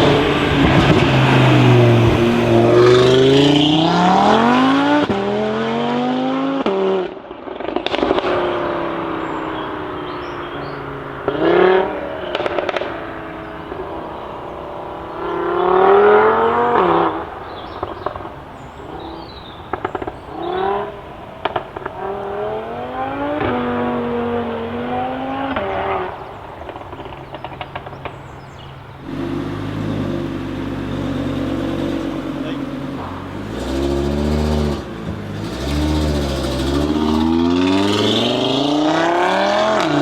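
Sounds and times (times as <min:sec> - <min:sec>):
exhaust pops and crackles: 0:00.0 - 0:05.3, 0:06.6 - 0:40.0
car engine revving: 0:00.0 - 0:40.0.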